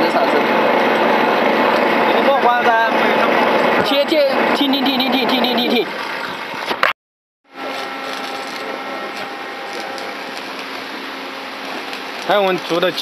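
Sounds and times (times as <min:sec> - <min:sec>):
machine humming: 0:00.0 - 0:06.7, 0:07.5 - 0:13.0.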